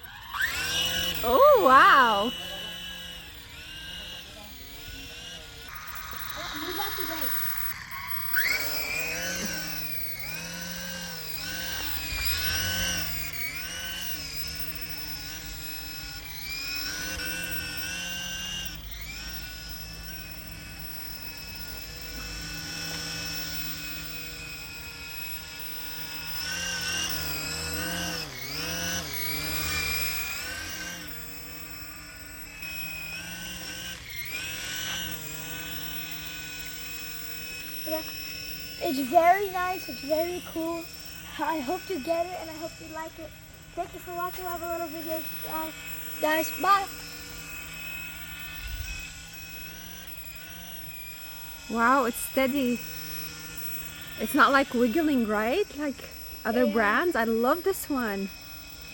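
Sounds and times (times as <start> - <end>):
toy helicopter motor whirring: 0.0 - 58.9.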